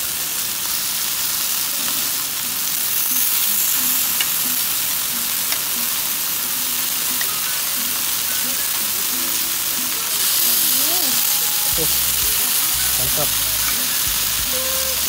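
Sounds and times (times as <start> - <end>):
chicken sizzling on grill plate: 0.0 - 15.0.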